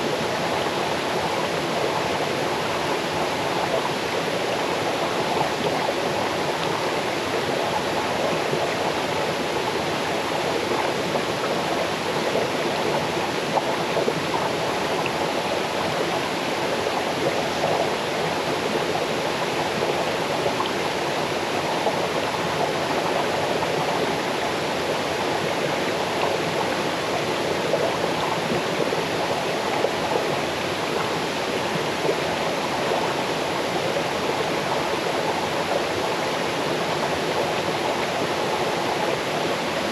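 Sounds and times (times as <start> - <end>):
water cascading over rocks: 0.0 - 39.9.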